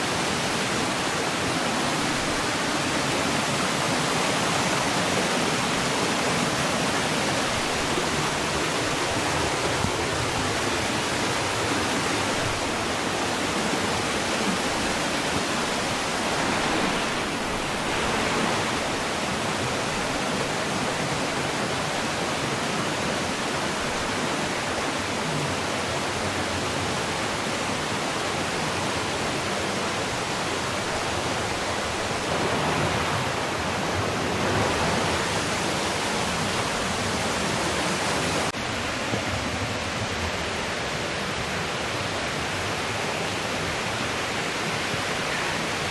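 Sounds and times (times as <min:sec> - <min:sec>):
water rushing in stream: 0:00.0 - 0:45.9.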